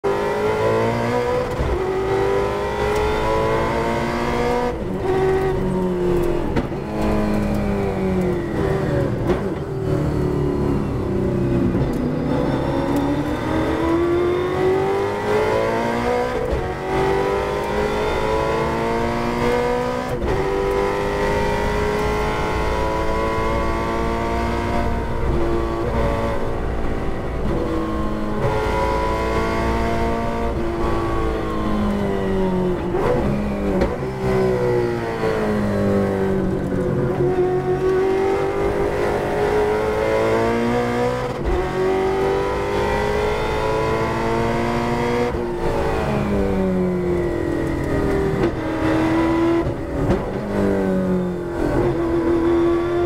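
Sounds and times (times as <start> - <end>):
race car engine under load: 0.0 - 53.0.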